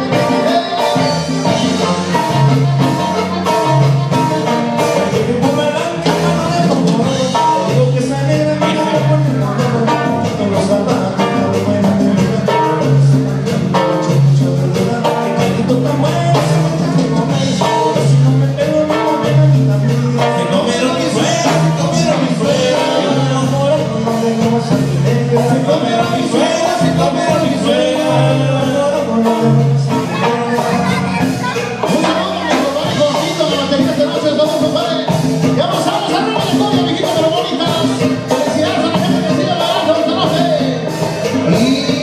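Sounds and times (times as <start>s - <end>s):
live band playing dance music: 0.0s - 42.0s
person singing: 0.0s - 42.0s
repeating bass line: 0.0s - 42.0s.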